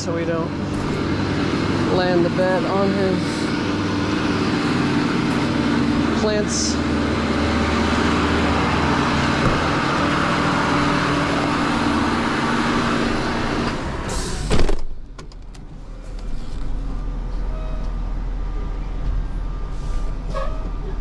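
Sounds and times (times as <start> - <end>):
truck engine running fast: 0.0 - 17.5.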